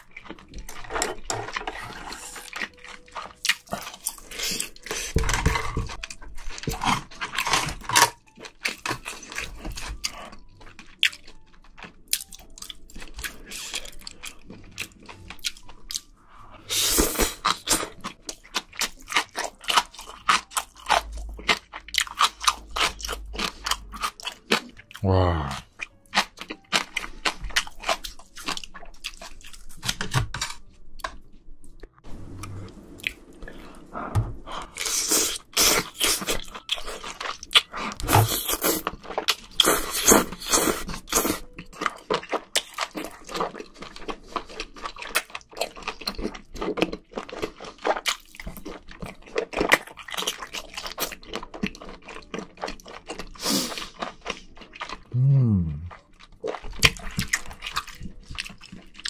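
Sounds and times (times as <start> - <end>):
wet chewing and lip-smacking: 0.0 - 5.2, 5.8 - 16.1, 17.0 - 30.2, 34.5 - 55.2, 55.9 - 59.0.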